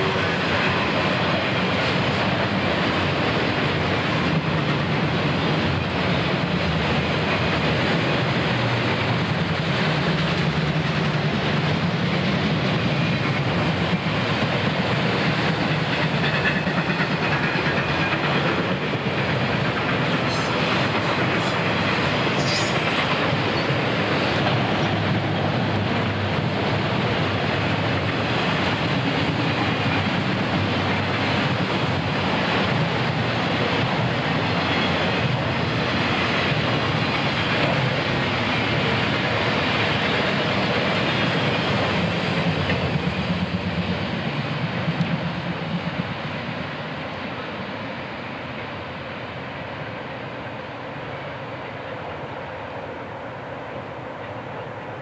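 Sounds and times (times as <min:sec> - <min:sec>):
train wheels rumbling and clattering: 0:00.0 - 0:55.0.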